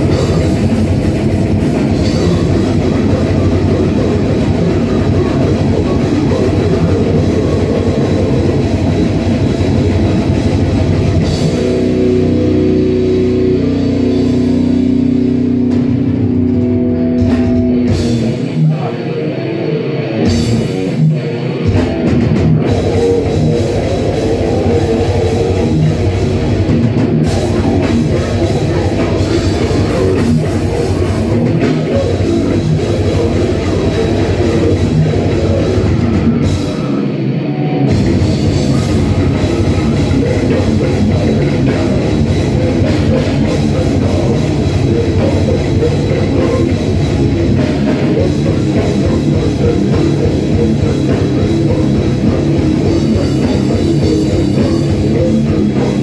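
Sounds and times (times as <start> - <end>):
death metal band playing live: 0.0 - 56.0.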